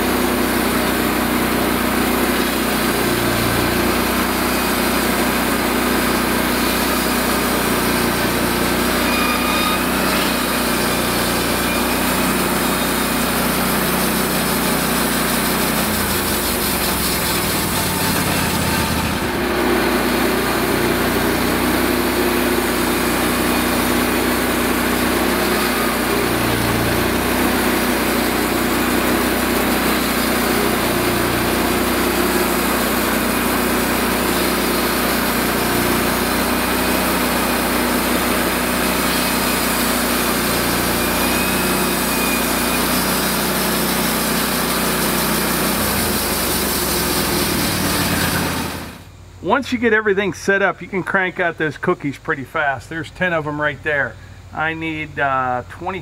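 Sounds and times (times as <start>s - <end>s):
band sawmill engine droning: 0.0s - 56.0s.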